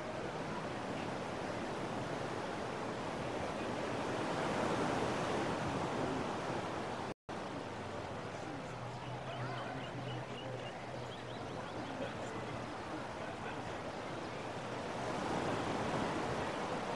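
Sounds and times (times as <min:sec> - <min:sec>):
ocean surf washing onto beach: 0:00.0 - 0:08.8, 0:11.8 - 0:16.9.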